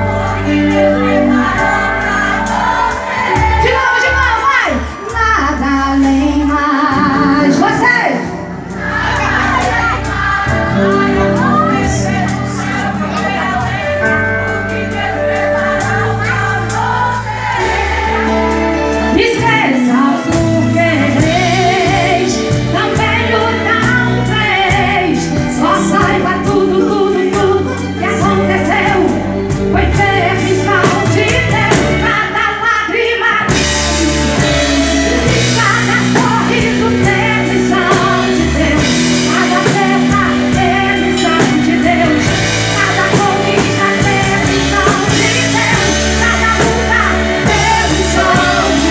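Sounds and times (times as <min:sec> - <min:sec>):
band playing with keyboard: 0:00.0 - 0:48.9
drums and cymbals: 0:00.0 - 0:48.9
person singing: 0:02.8 - 0:14.6, 0:18.1 - 0:48.9.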